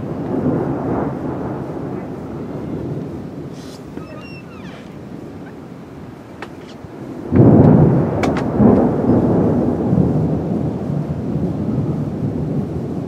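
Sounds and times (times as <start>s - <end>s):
thunder crack and rumble: 0.0s - 4.0s, 4.8s - 13.0s.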